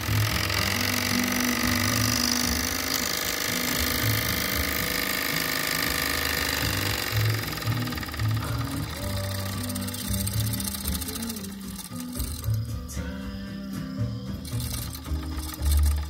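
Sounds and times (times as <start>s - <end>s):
toy steam engine chattering: 0.0s - 16.0s.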